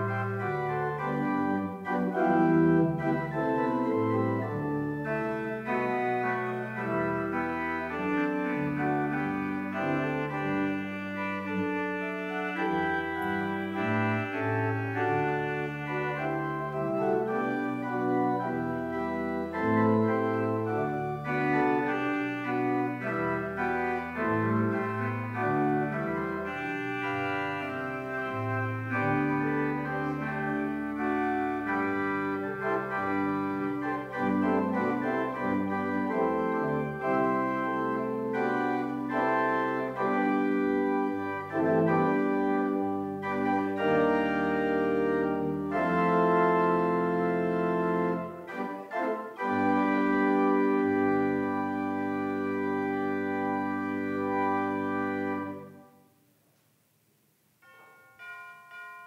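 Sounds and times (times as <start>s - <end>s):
church organ chords: 0.0s - 56.1s, 57.5s - 59.0s.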